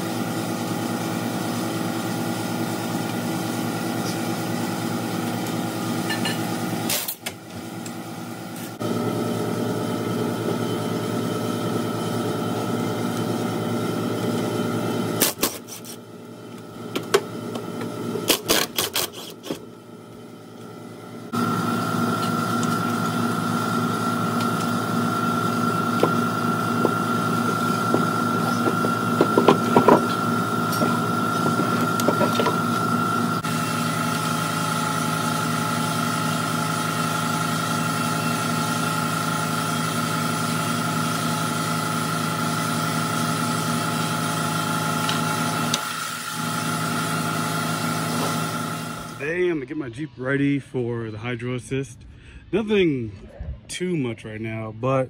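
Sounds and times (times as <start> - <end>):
steady mechanical drone: 0.0 - 55.0.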